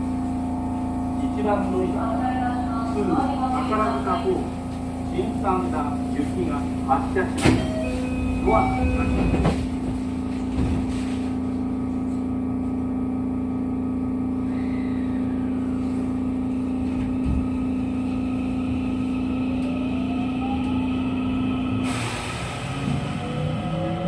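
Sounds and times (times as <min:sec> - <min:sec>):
electric train humming: 0:00.0 - 0:24.0.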